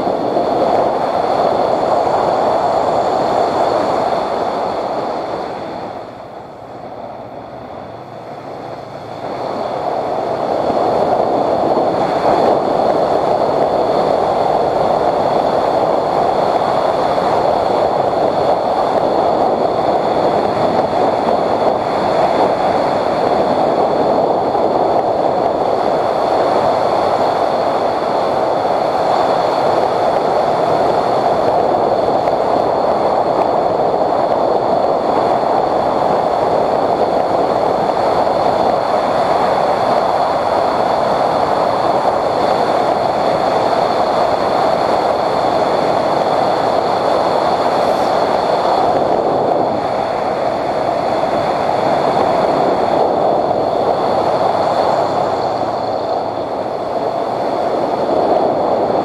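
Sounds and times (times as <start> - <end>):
faint high whine: 0.0 - 59.0
motorcycle engine and tyre noise: 0.0 - 59.0
wind rushing on microphone: 0.0 - 59.0.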